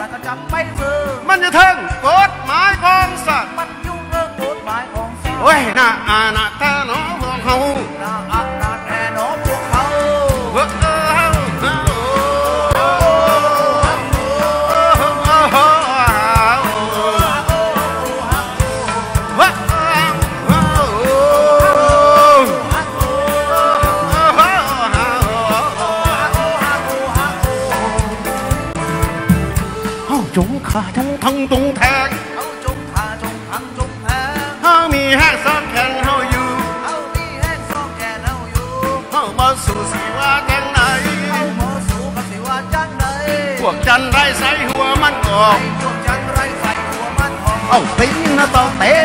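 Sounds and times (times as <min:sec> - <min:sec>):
live band music: 0:00.0 - 0:49.0
person singing: 0:00.0 - 0:49.0
steady drum beat: 0:00.0 - 0:49.0.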